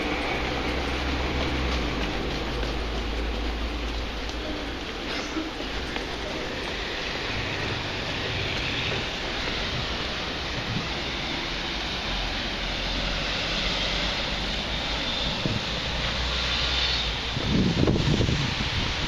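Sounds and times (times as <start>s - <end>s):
street traffic: 0.0s - 19.0s
wind: 0.0s - 19.0s.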